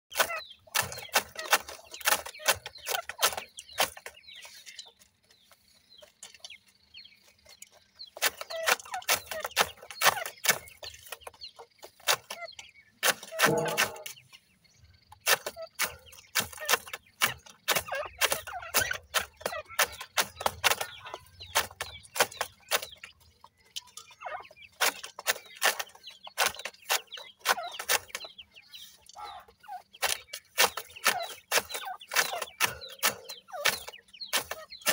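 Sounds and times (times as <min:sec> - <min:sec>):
chicks clucking and clicking: 0:00.1 - 0:34.9.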